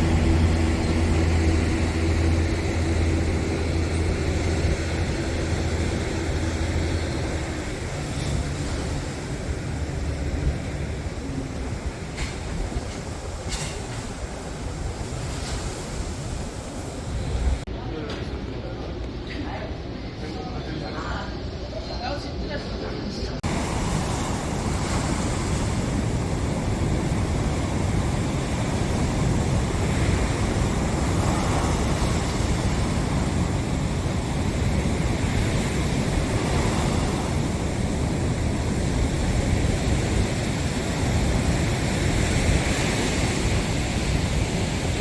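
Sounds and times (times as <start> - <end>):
sea surf washing onto beach: 0.0 - 17.7, 23.4 - 45.0
wind rumbling on microphone: 0.0 - 17.7, 23.4 - 45.0.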